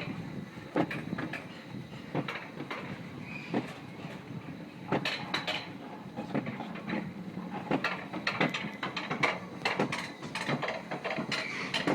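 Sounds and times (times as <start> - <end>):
roller coaster cart clattering: 0.0 - 11.9.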